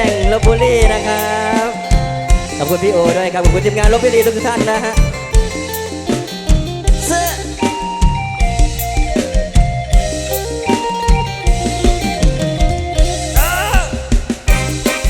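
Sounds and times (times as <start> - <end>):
drum kit dance beat: 0.0 - 15.0
heavy bass: 0.0 - 15.0
live band playing: 0.0 - 15.0.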